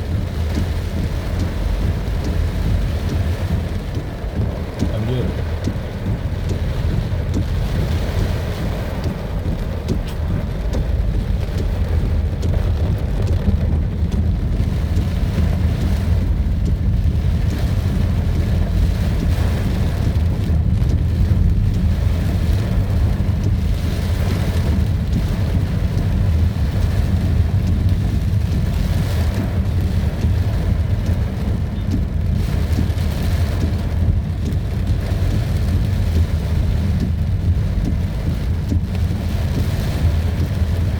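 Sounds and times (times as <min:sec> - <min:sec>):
continuous low rumble: 0:00.0 - 0:40.9
heavy rain falling: 0:00.0 - 0:40.9.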